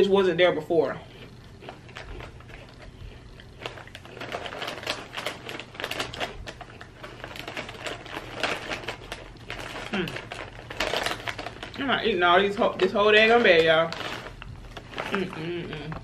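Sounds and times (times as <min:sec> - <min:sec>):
plastic snack bag crinkling: 0:01.2 - 0:16.0.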